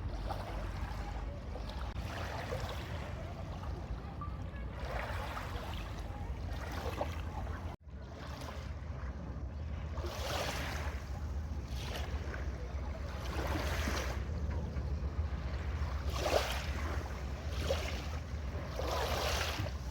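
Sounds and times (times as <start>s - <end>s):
gusting water or wind noise: 0.0s - 19.9s.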